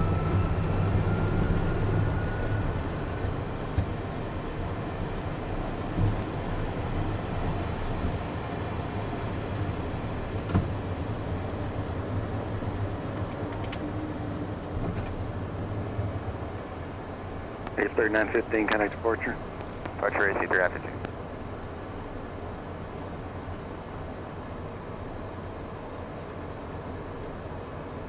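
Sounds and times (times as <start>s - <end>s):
cockpit engine rumble: 0.0s - 28.0s
turbofan whine: 0.0s - 28.0s.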